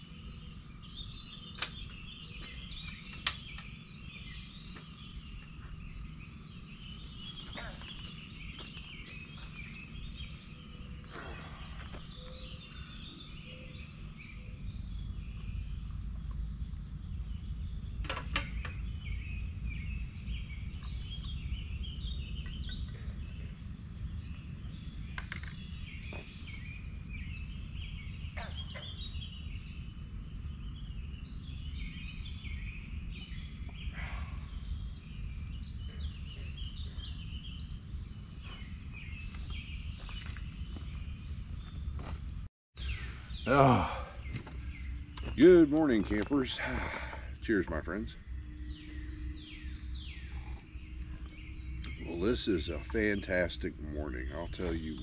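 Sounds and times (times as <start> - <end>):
birds chirping: 0.0 - 55.0
low rumble: 3.9 - 55.0.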